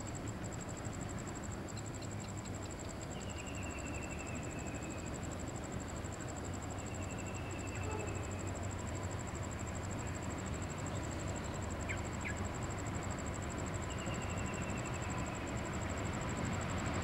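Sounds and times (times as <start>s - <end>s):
distant freight train rumble: 0.0s - 17.0s.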